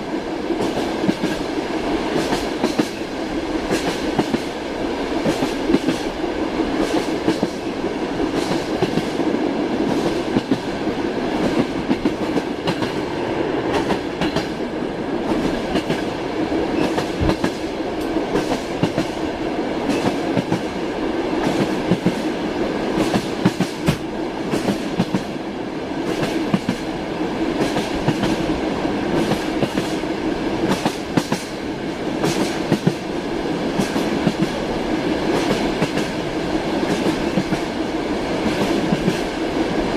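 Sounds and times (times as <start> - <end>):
train carriage rumbling: 0.0 - 39.9.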